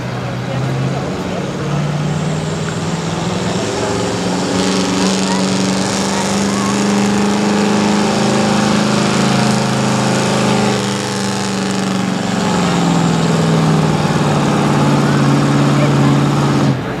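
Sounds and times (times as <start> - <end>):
pickup truck engine at high revs: 0.0 - 17.0.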